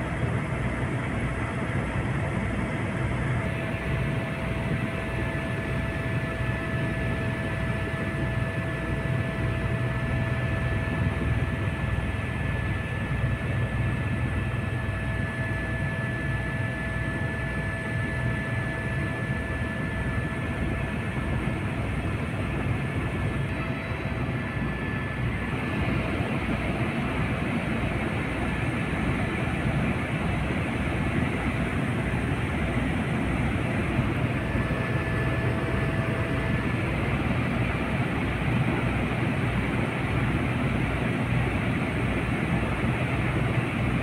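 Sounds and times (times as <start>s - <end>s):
helicopter engine drone: 0.0s - 44.0s
helicopter rotor beat: 0.0s - 44.0s
thin steady whines: 0.0s - 44.0s.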